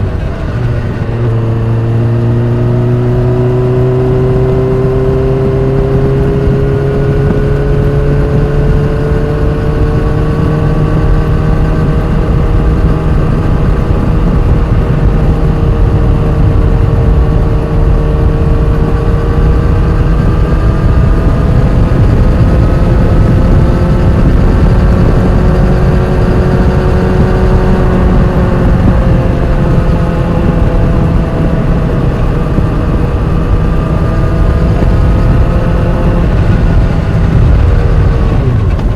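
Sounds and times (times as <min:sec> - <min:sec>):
motorcycle engine rumble: 0:00.0 - 0:38.9.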